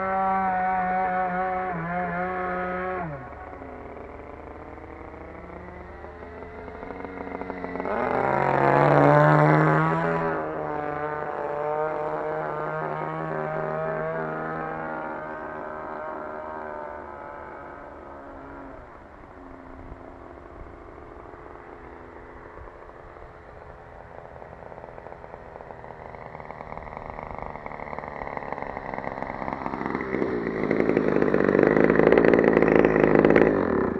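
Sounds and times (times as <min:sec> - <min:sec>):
model plane engine running: 0:00.0 - 0:33.9.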